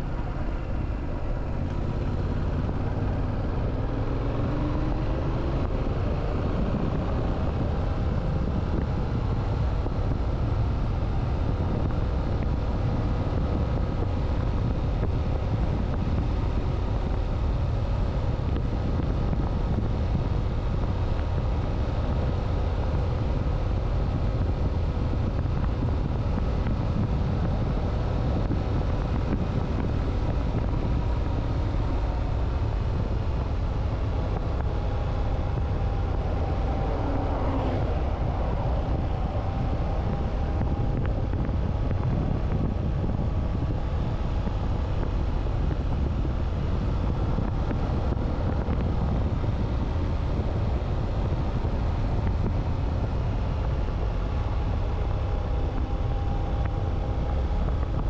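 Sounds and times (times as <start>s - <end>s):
motorcycle engine cruising: 0.0s - 58.0s
wind rushing over microphone: 0.0s - 58.0s.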